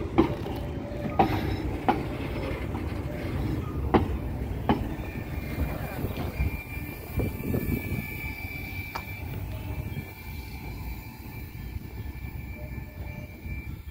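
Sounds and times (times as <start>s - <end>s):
train wagons rumbling on rails: 0.0s - 13.9s
high squeal: 2.4s - 13.9s.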